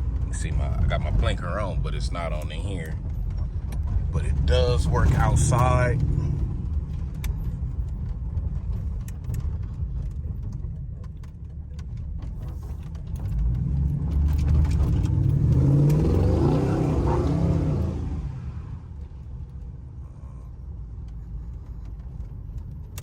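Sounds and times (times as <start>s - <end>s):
car engine while driving: 0.0s - 23.0s.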